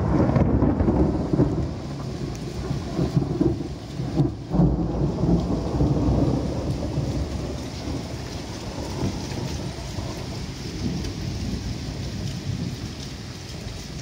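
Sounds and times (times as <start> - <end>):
rain falling: 0.0 - 14.0
thunder rumbling: 0.0 - 14.0.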